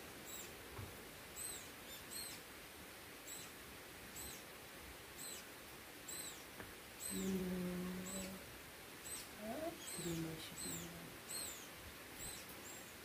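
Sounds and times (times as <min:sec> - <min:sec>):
outdoor background noise: 0:00.0 - 0:13.0
small bird chirping: 0:00.2 - 0:00.6, 0:01.3 - 0:02.5, 0:03.2 - 0:04.5, 0:05.1 - 0:13.0.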